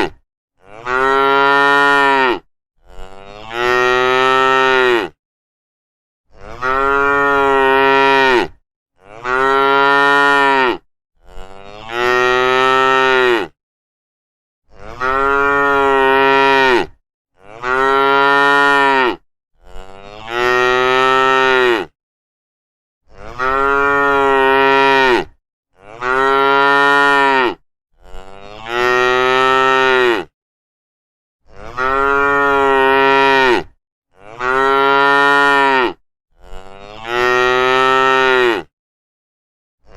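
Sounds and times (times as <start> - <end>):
cattle mooing: 0.0 - 5.2, 6.4 - 13.5, 14.8 - 21.9, 23.2 - 30.3, 31.6 - 38.7.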